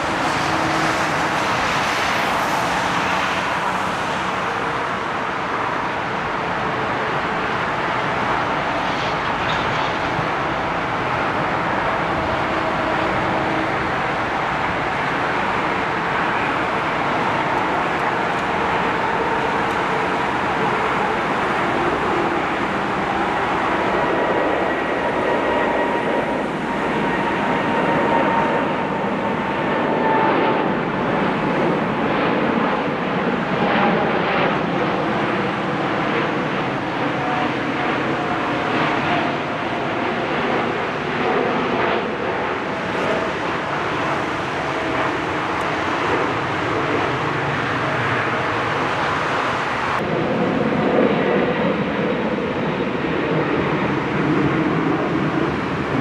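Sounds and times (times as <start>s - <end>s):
faint jet whine: 0.0s - 56.0s
jet engines roaring at takeoff: 0.0s - 56.0s.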